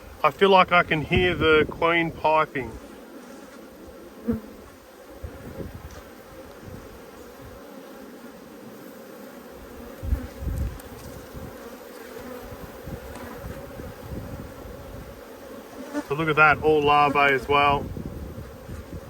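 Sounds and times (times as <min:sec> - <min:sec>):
honeybees humming: 0:00.0 - 0:19.0.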